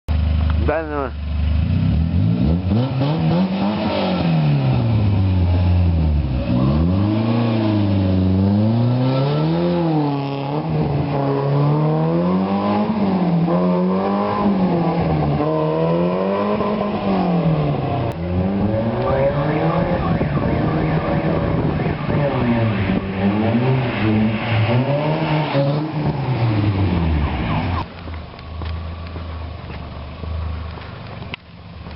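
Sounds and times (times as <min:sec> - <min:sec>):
car engine revving: 0:00.3 - 0:27.9.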